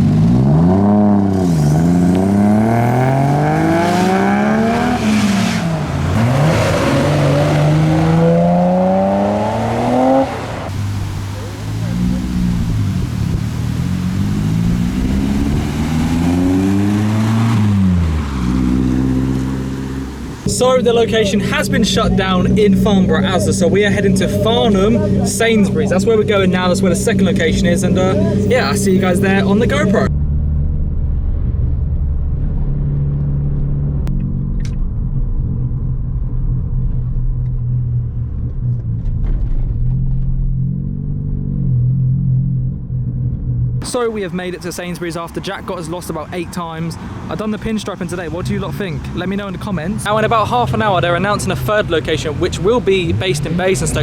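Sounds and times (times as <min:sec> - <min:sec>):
car engine accelerating: 0:00.0 - 0:54.0
low road rumble: 0:00.0 - 0:54.0.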